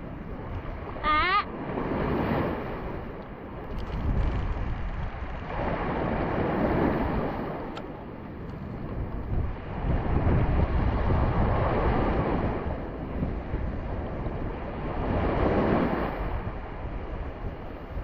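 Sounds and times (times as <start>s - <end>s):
choppy sea water washing: 0.0s - 18.0s
wind rumbling on microphone: 0.0s - 18.0s.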